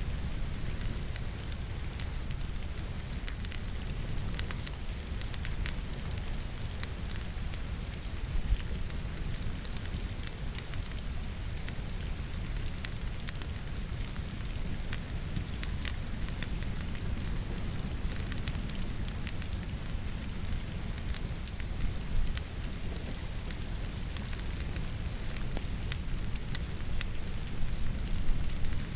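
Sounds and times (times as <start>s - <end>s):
falling rain: 0.0s - 28.9s
firewood crackling and popping: 0.0s - 28.9s.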